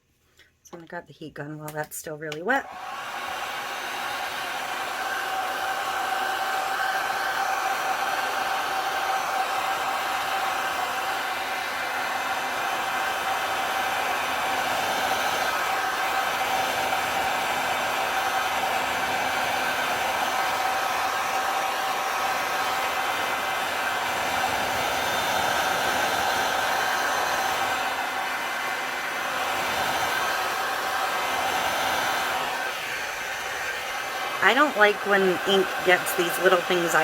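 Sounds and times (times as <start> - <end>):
heat gun blowing air: 2.6 - 37.0.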